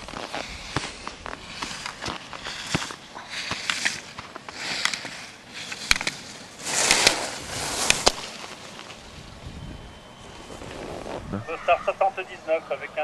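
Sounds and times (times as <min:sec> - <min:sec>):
skis scraping on snow: 0:00.0 - 0:09.4, 0:10.2 - 0:12.3.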